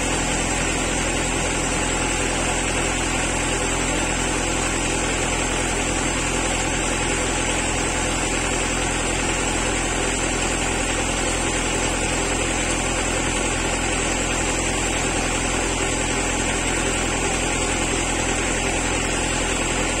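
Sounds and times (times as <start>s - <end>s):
engine-like drone: 0.0s - 20.0s.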